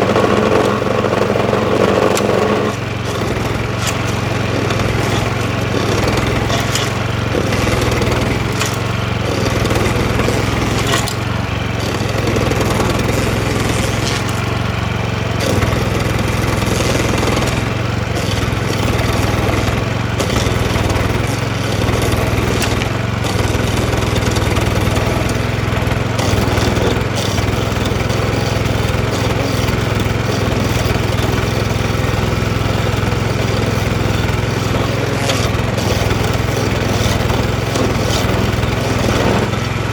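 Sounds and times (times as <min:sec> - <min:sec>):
cutting wheel grinding stump: 0:00.0 - 0:39.9
gasoline engine running: 0:00.0 - 0:39.9
sharp clicks of teeth biting wood: 0:02.0 - 0:14.6, 0:15.4 - 0:39.6.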